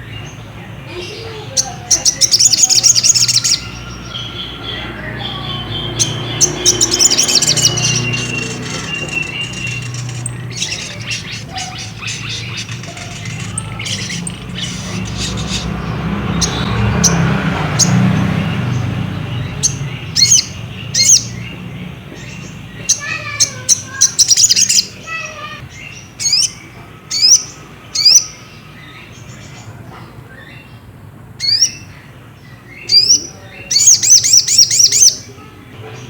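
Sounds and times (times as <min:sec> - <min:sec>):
bird chirping trills: 0:00.0 - 0:36.0.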